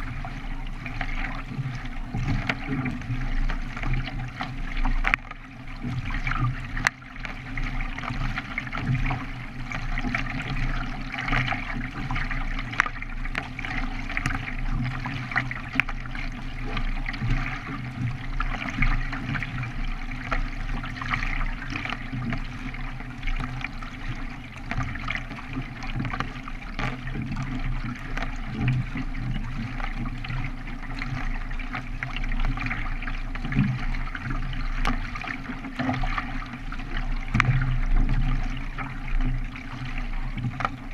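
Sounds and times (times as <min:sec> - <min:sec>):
low steady rumble: 0:00.0 - 0:40.9
water splashing against kayak: 0:00.0 - 0:40.9.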